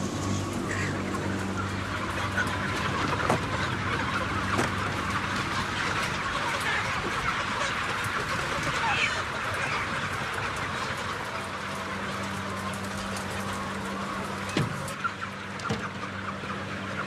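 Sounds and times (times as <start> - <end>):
chickens clucking: 0.0 - 17.0
ventilation fans humming: 0.0 - 17.0.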